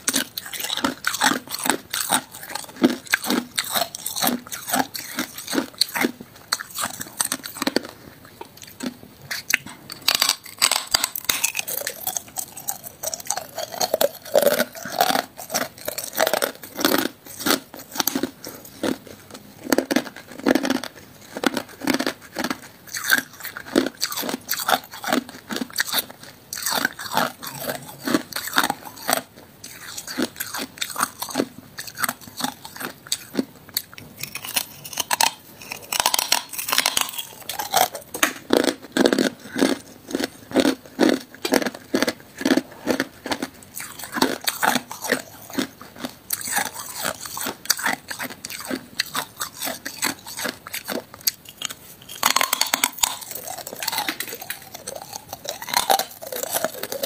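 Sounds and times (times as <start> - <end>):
crunching ice: 0.0 - 8.0, 8.6 - 33.4, 34.2 - 57.0.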